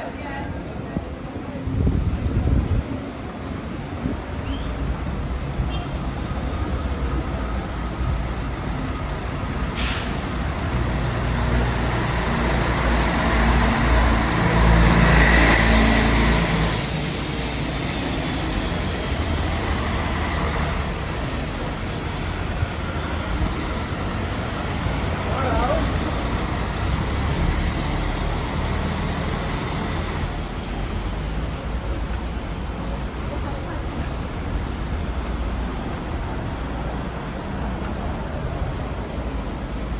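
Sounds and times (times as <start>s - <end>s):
vehicle engine rumbling: 0.4s - 39.9s.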